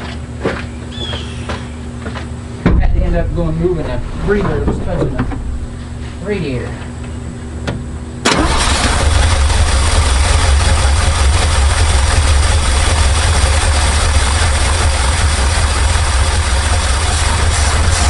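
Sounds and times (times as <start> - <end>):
truck engine idling: 1.8 - 18.0.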